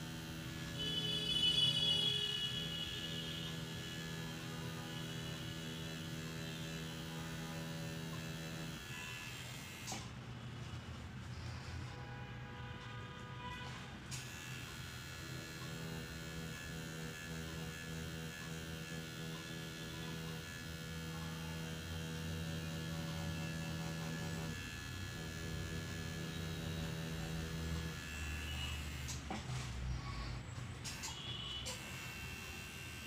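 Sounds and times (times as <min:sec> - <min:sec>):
tattoo machine buzzing: 0:00.0 - 0:10.1, 0:14.1 - 0:29.4, 0:30.8 - 0:33.0.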